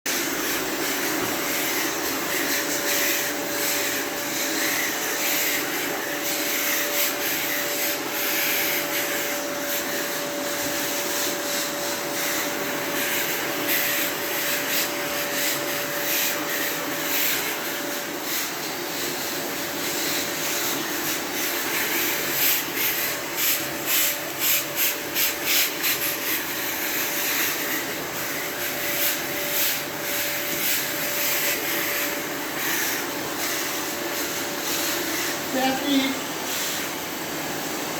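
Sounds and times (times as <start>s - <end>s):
vacuum cleaner whine: 0.1s - 37.9s.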